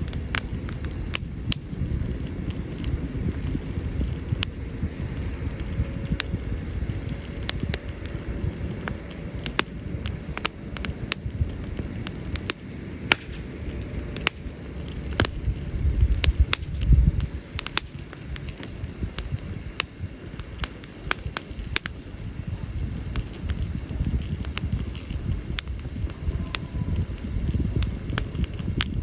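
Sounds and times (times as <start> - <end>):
campfire crackling and popping: 0.0 - 29.0
low rumble: 0.0 - 29.0.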